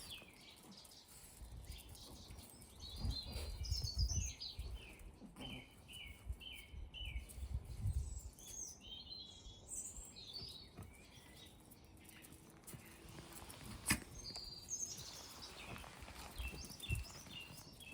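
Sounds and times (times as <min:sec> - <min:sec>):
songbirds singing and chirping: 0:00.0 - 0:17.9.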